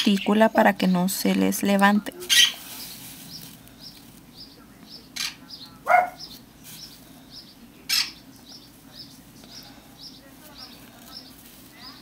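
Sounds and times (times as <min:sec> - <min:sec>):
small bird chirping: 0:02.1 - 0:12.0.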